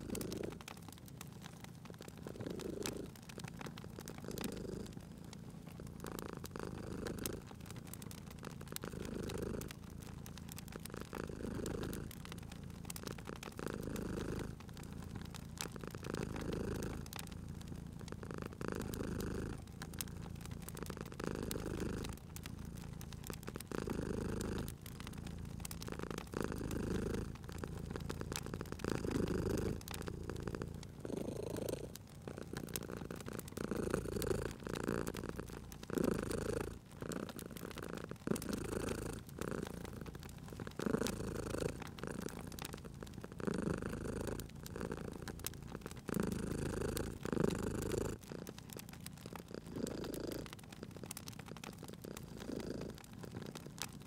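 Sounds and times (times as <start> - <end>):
cat purring: 0.0 - 54.0
wood fire crackling: 0.0 - 54.0.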